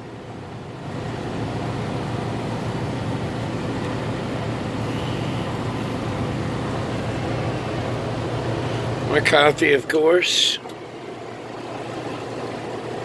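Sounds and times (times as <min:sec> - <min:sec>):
truck diesel engine idling: 0:00.0 - 0:13.0.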